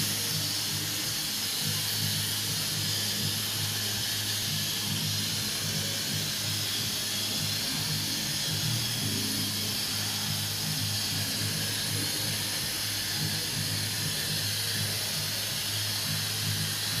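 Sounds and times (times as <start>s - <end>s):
spray foam gun hissing: 0.0s - 17.0s.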